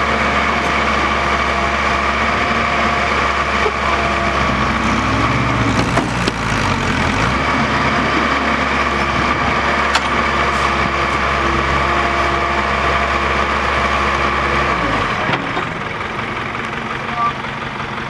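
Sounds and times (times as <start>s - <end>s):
heavy diesel engines under load: 0.0s - 18.0s.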